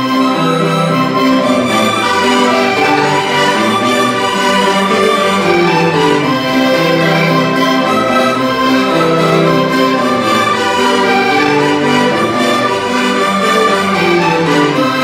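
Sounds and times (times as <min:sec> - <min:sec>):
accordions and guitar playing folk tune: 0:00.0 - 0:15.0.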